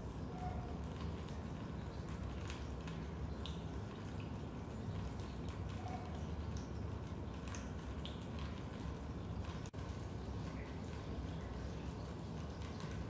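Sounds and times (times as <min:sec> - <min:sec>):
water drips and plinks: 0:00.0 - 0:13.0.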